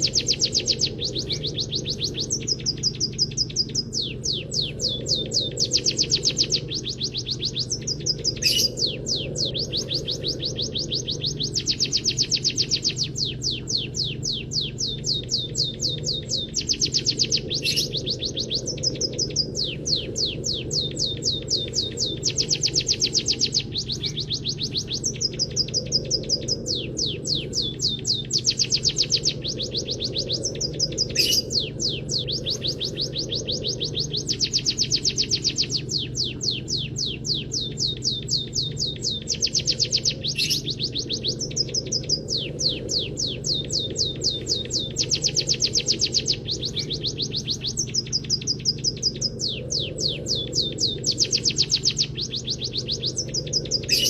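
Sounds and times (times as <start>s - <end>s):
bird chirping trills: 0.0s - 54.0s
steady low hum: 0.0s - 54.0s.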